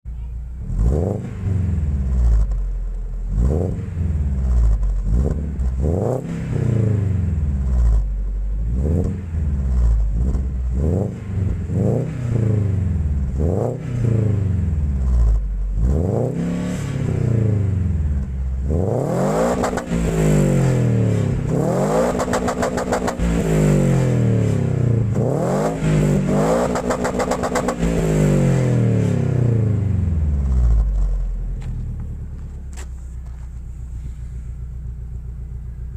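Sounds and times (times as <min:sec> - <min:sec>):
car engine revving: 0:00.6 - 0:35.9.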